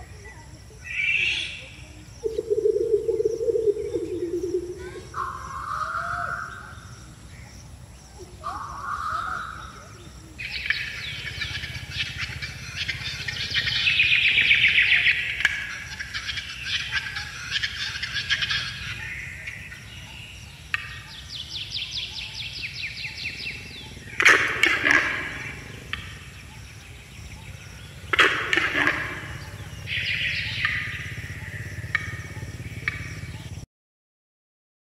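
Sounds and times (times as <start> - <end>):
birds chirping and calling: 0.0 - 33.6
low steady rumble: 1.5 - 33.6.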